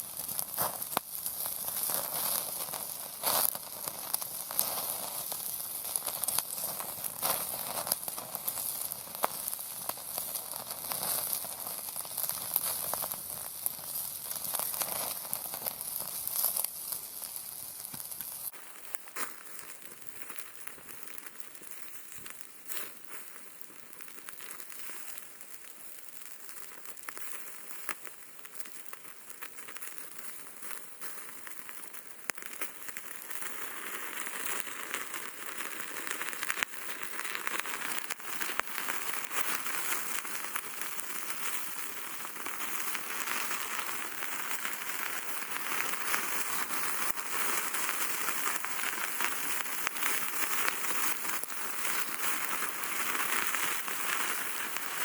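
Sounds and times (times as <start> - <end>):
pork sizzling and spitting: 0.0 - 55.0
wood fire crackling: 0.0 - 55.0.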